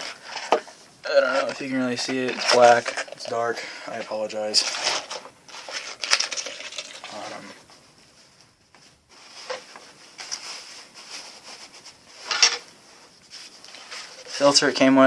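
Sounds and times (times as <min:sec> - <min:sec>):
gas mask kit rustling: 0:00.0 - 0:15.0.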